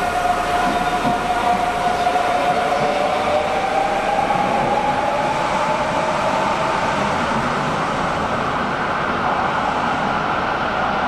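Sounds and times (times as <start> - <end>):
train rumbling with rising whine: 0.0 - 11.0.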